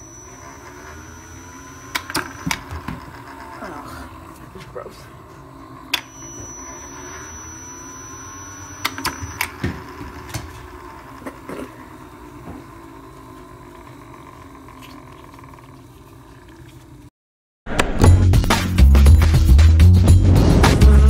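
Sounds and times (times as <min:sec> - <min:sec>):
ball launcher motor humming: 0:00.0 - 0:17.1.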